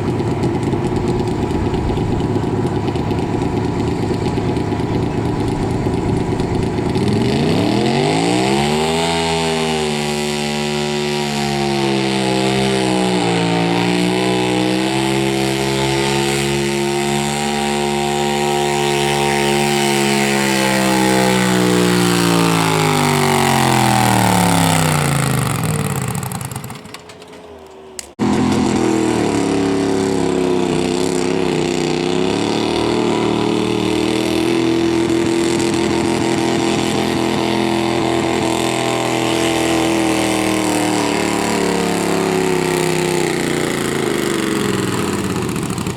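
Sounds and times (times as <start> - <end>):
engine at high revs: 0.0 - 27.3, 27.9 - 45.9
tractor engine running under load: 0.0 - 45.9.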